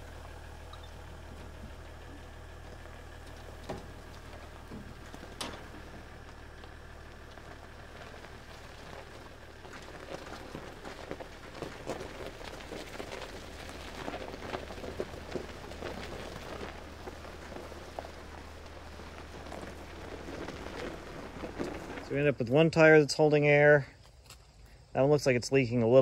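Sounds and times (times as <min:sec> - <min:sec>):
locked wheel dragging through gravel: 0:00.0 - 0:23.9
gravel crunching under tyres: 0:00.0 - 0:26.0
low steady hum: 0:00.0 - 0:26.0.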